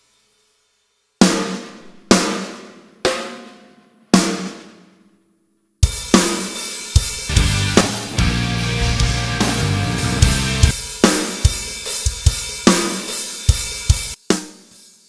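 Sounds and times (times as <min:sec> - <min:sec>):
drum kit beat: 0:01.2 - 0:04.9, 0:05.8 - 0:15.0.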